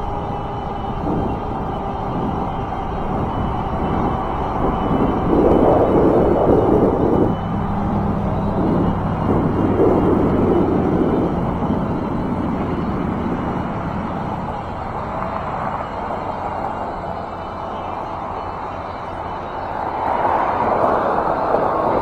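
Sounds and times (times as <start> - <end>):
e-bike rolling on paved path: 0.0 - 22.0
wind on microphone: 0.0 - 22.0.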